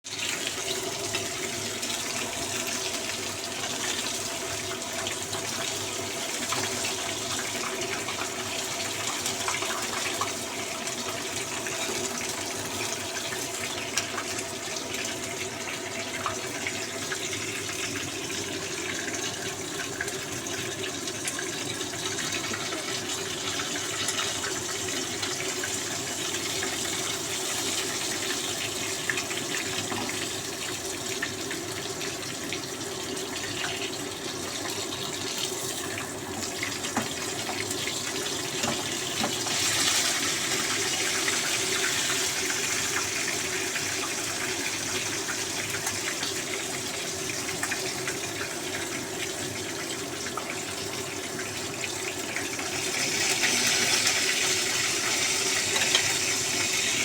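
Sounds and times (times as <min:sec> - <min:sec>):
water running from tap: 0:00.0 - 0:57.0.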